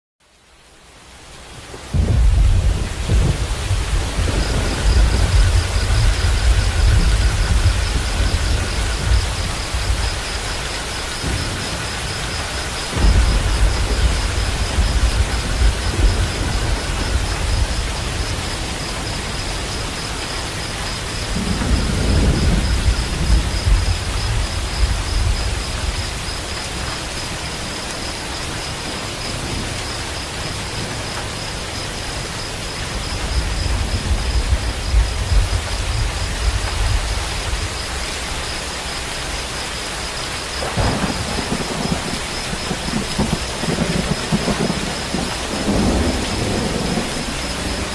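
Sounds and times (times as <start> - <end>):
heavy rainfall: 0.2 - 47.9
rolling thunder rumbles: 1.7 - 39.6, 40.5 - 47.9.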